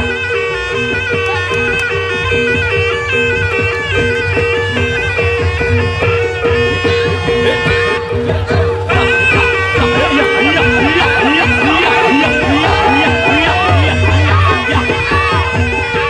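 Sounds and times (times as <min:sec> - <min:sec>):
drums: 0:00.0 - 0:16.0
reedy shawm melody: 0:00.0 - 0:16.0.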